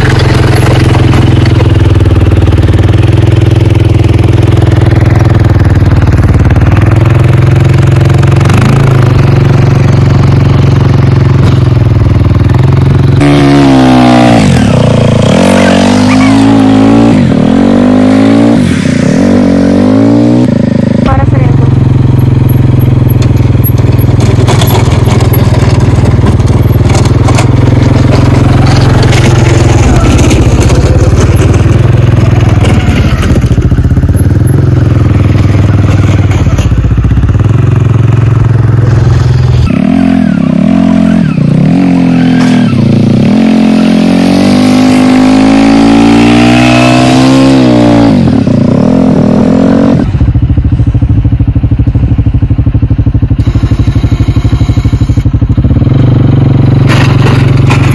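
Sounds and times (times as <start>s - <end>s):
atv engine idling and revving: 0.0s - 57.9s.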